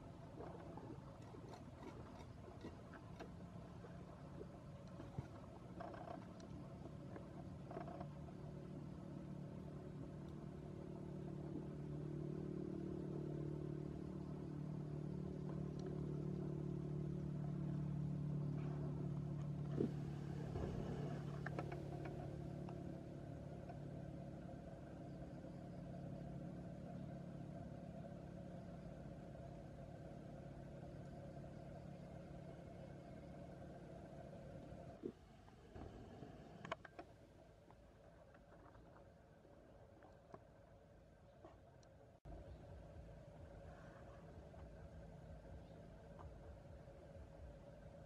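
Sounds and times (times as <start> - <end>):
engine hum: 0.0 - 48.0.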